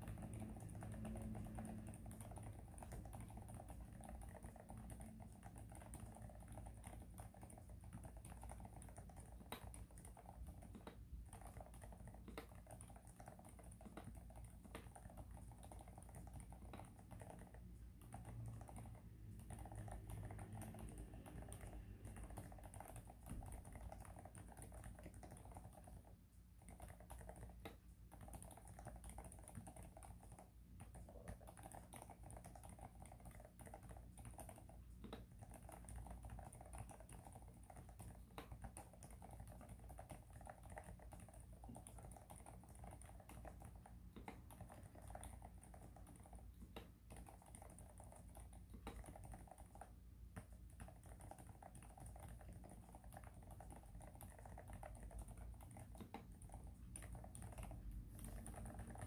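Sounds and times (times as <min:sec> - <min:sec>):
muted keyboard typing: 0:00.0 - 0:59.0.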